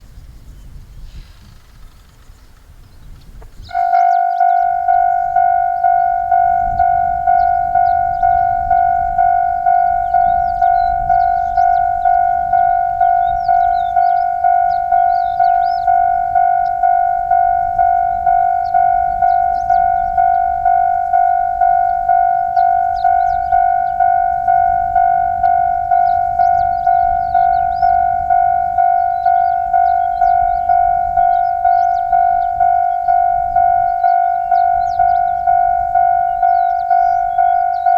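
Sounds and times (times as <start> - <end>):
faint high chirps: 3.7 - 37.9
level-crossing warning bell: 3.7 - 37.9.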